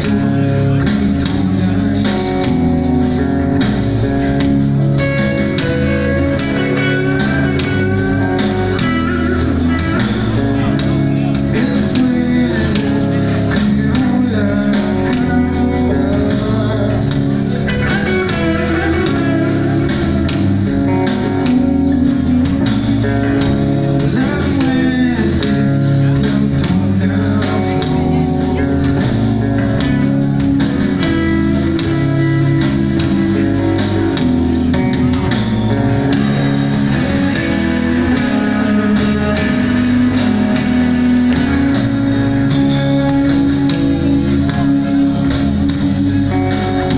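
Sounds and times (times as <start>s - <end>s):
drum kit: 0.0s - 46.9s
electric guitars: 0.0s - 46.9s.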